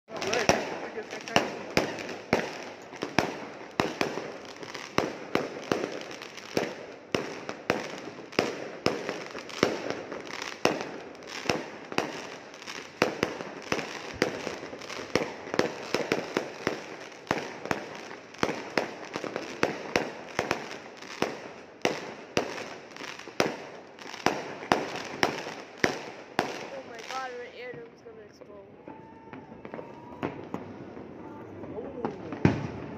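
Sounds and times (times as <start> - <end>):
fireworks bangs: 0.1 - 32.9.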